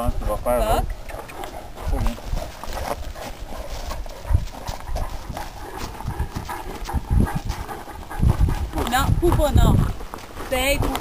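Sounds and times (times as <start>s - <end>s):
paws scuffling on gravel: 1.2s - 11.0s.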